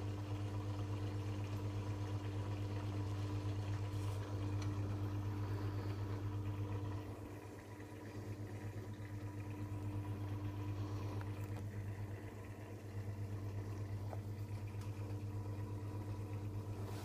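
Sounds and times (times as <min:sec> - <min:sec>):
aquarium filter pump humming: 0:00.0 - 0:17.0.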